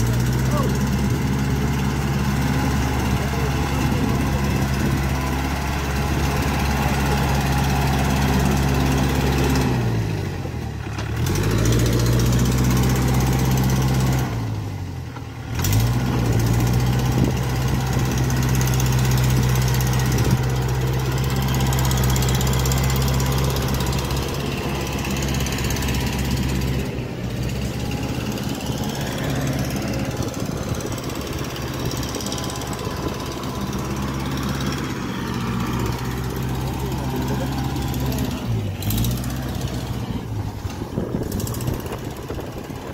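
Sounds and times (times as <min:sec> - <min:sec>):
tractor diesel engine labouring: 0:00.0 - 0:42.9.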